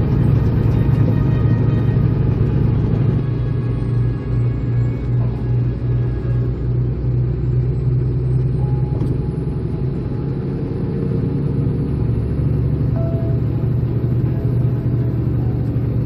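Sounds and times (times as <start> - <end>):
truck engine drone: 0.0 - 16.0
tyres on road: 0.0 - 16.0.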